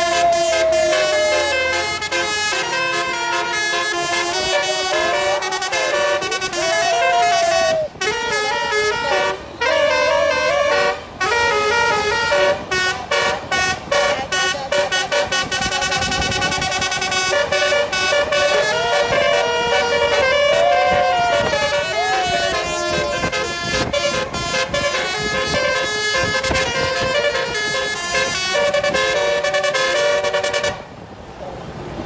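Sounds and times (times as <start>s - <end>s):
multi-tone bus horn melody: 0.0s - 31.0s.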